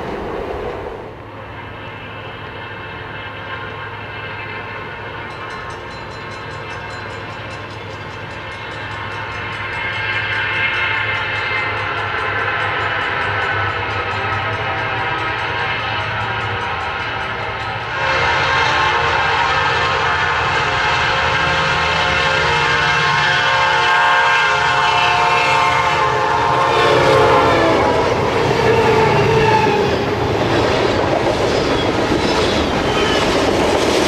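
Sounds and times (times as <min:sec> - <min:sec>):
diesel locomotive engine drone: 0:00.0 - 0:34.0.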